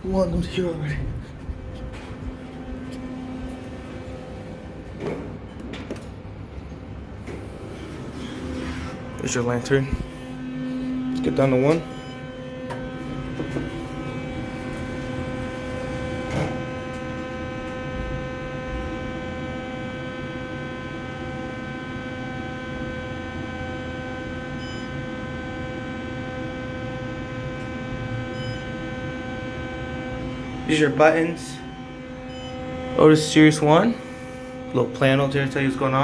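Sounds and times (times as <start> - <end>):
elevator humming: 0.0 - 36.0.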